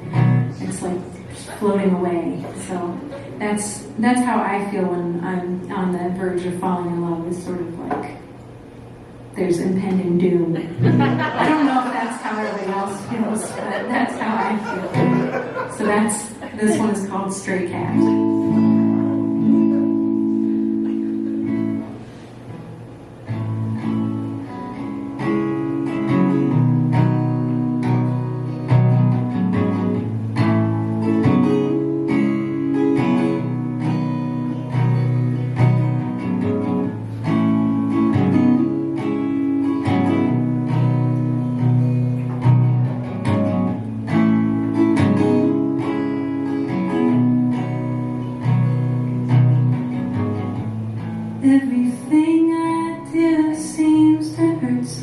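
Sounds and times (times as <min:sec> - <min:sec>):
guitar playing chords: 0:00.0 - 0:04.0, 0:10.3 - 0:55.0.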